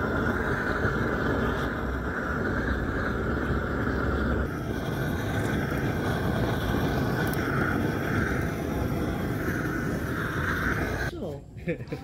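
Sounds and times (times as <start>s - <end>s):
gas torch flame rushing: 0.0s - 11.2s.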